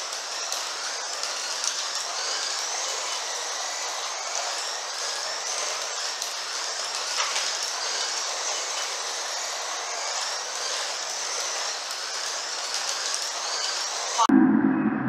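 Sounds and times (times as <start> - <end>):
slot cars whirring on track: 0.0 - 14.3
high motor whine: 0.0 - 15.0.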